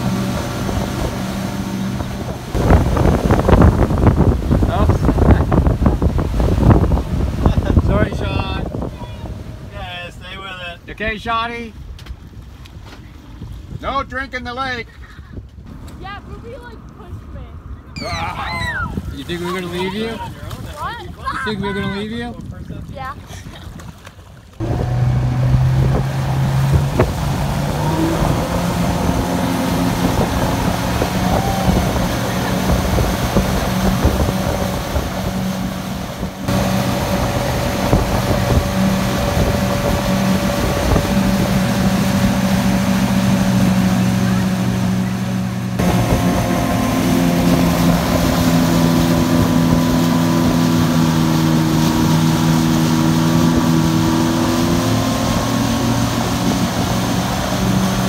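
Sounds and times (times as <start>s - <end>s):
rushing wind: 0.0s - 10.8s, 15.0s - 24.0s, 24.6s - 58.0s
motorboat engine running: 0.0s - 10.9s, 17.9s - 58.0s
water rushing from wake: 0.0s - 14.0s, 18.0s - 58.0s.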